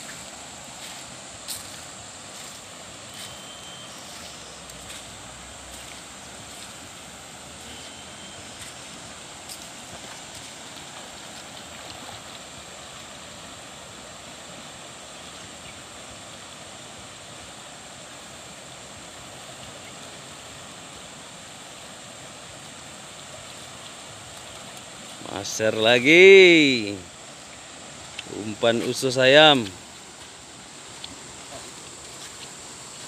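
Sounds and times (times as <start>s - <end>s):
river flowing over stones: 0.0s - 33.0s.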